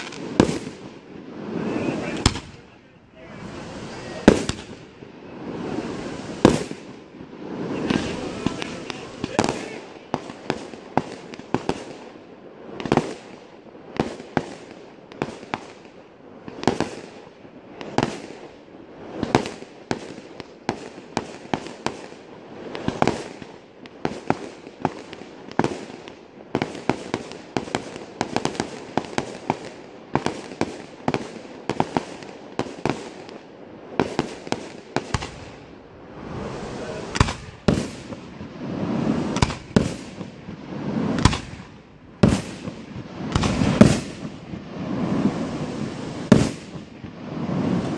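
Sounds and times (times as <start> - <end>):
fireworks launching and bursting: 0.0 - 47.9.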